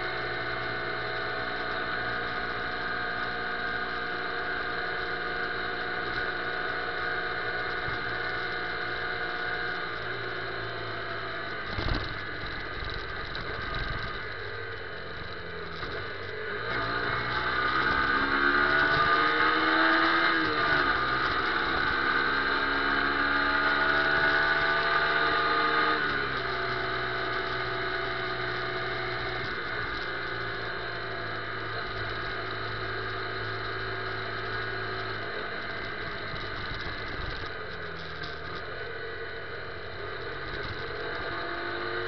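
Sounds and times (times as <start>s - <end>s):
motorcycle engine: 0.0s - 42.0s.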